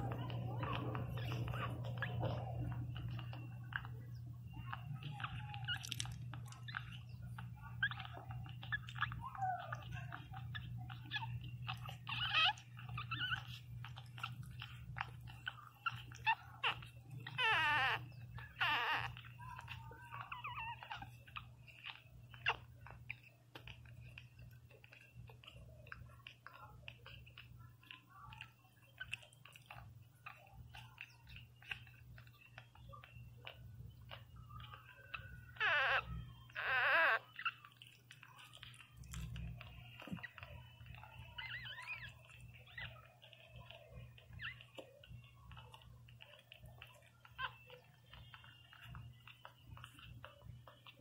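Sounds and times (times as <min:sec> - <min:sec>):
puppies suckling wet clicks: 0:00.0 - 0:51.0
puppies whimpering: 0:00.0 - 0:51.0
puppy squealing cries: 0:00.0 - 0:51.0.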